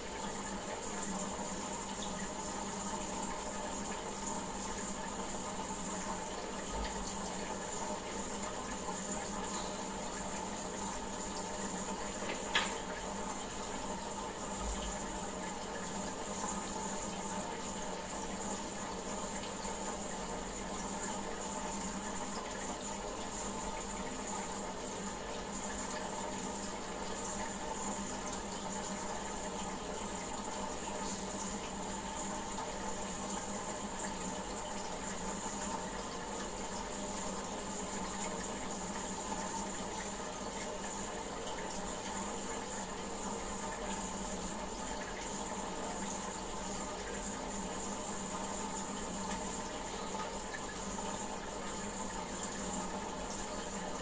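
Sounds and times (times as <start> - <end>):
water running in aquarium: 0.0 - 54.0.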